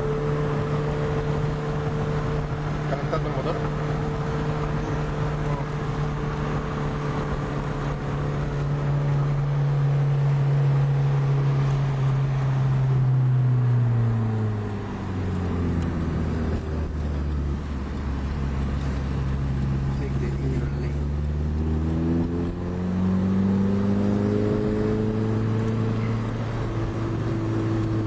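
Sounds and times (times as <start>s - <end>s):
car engine drone from inside: 0.0s - 28.0s.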